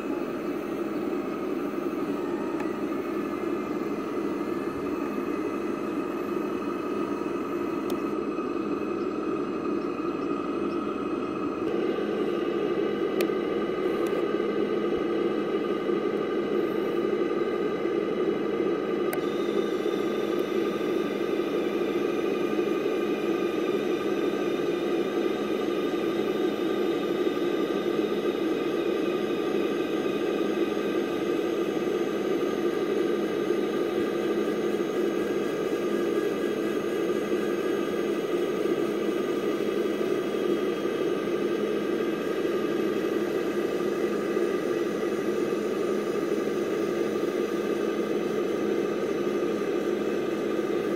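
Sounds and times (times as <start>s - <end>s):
higher motor whine: 0.0s - 50.9s.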